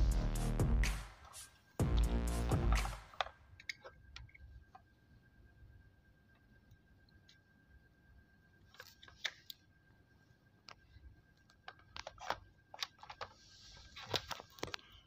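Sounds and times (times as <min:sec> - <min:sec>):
faint steady high whine: 0:00.0 - 0:15.0.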